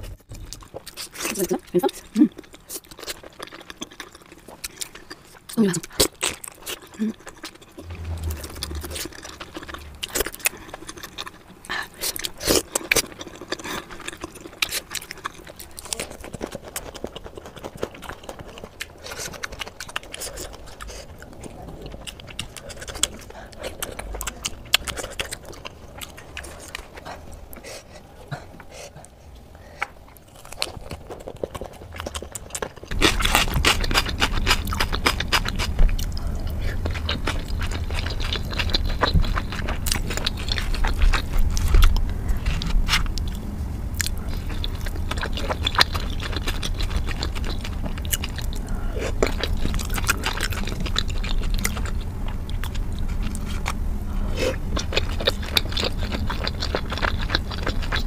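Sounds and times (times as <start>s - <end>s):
close chewing and mouth sounds: 0.0s - 58.0s.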